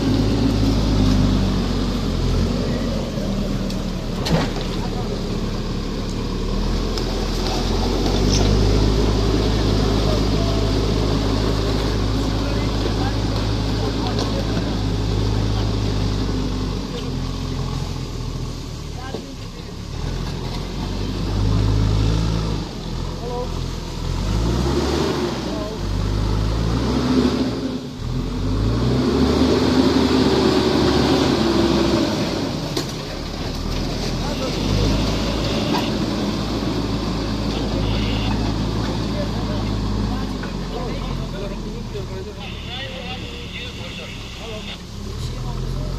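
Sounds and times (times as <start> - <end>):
heavy machine engine running: 0.0 - 45.9.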